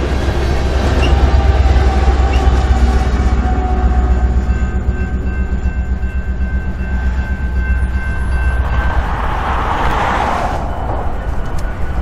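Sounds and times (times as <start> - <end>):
diesel locomotives rumbling: 0.0 - 12.0
railcars rolling: 0.0 - 12.0.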